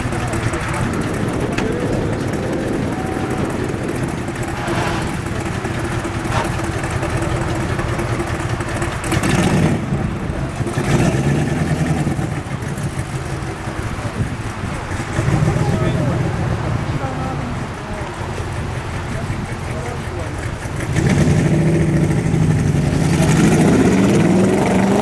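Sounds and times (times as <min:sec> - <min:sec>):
engine revving: 0:00.0 - 0:17.0, 0:18.6 - 0:25.0
car engine idling: 0:00.0 - 0:25.0.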